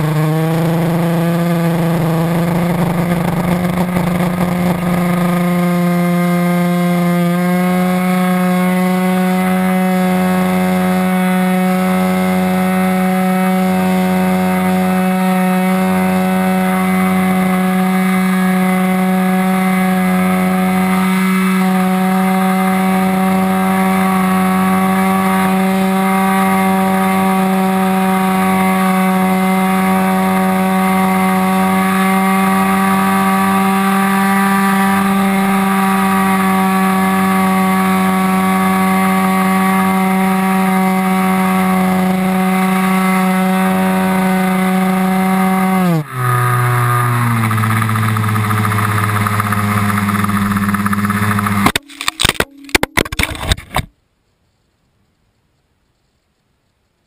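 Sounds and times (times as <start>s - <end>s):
model plane engine buzzing: 0.0s - 52.4s.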